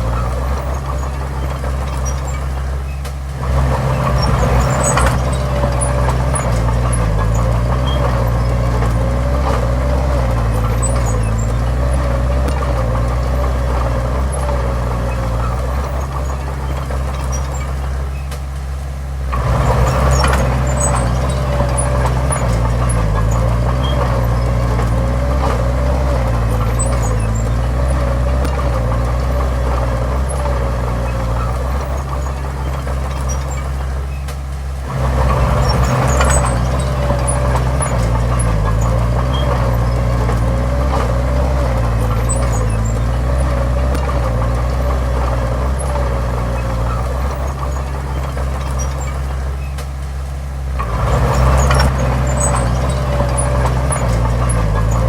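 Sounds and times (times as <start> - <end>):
bulldozer diesel engine whining: 0.0 - 55.0.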